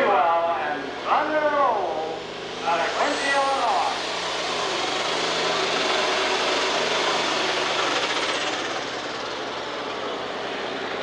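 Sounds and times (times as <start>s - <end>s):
high turbo whine: 0.0s - 11.0s
tractor engine at full power: 0.0s - 11.0s.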